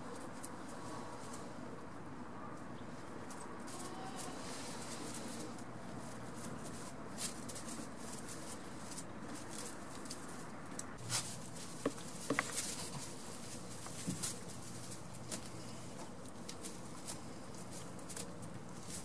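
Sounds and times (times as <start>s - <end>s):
hooves stepping in straw: 3.0s - 19.0s.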